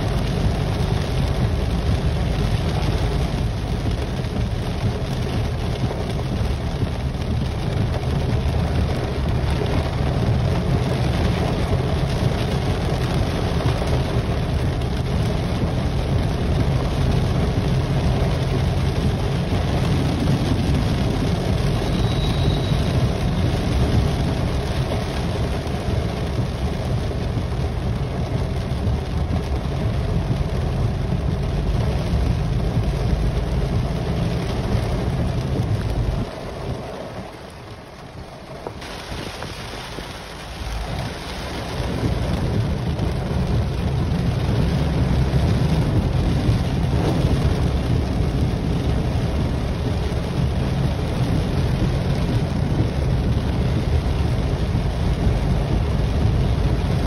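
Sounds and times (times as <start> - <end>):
heavy rain drumming on a car: 0.0 - 57.0.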